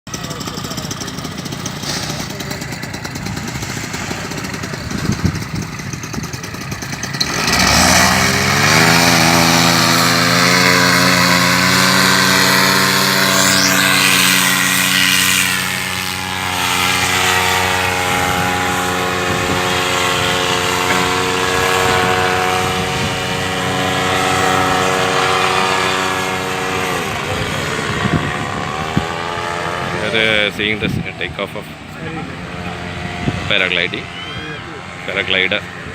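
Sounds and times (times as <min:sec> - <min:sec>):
paramotor engine and propeller revving: 0:00.1 - 0:35.9.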